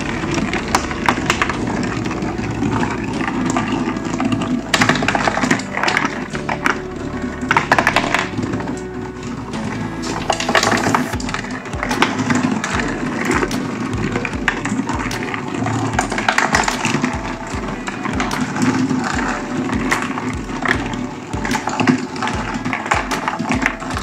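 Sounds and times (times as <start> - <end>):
marbles rolling and clicking: 0.0 - 24.0.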